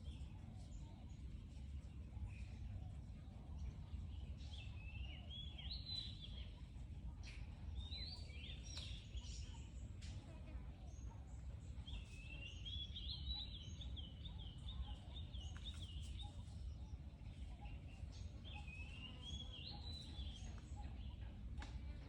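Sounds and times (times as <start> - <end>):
bird chirping: 0.0 - 21.5
low background rumble: 0.0 - 22.0.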